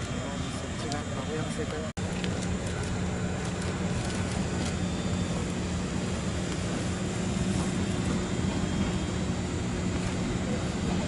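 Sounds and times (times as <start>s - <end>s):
parked electric trains humming: 0.0s - 11.0s
steady low tone: 0.0s - 11.0s.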